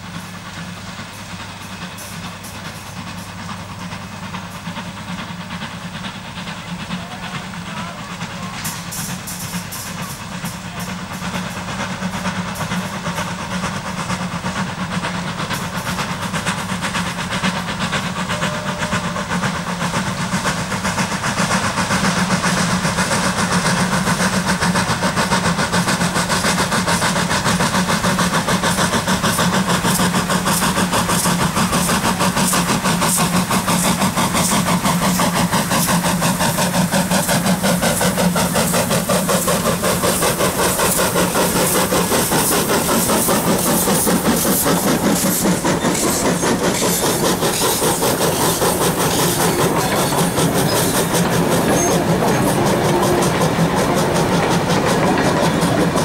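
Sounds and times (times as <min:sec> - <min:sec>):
steam hissing: 0:00.0 - 0:56.0
steam locomotive exhaust beats: 0:00.0 - 0:56.0.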